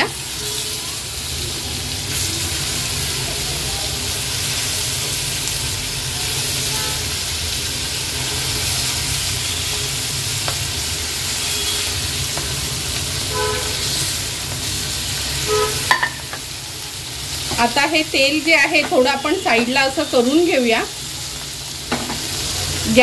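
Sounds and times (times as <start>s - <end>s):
fish sizzling in oil: 0.0s - 23.0s.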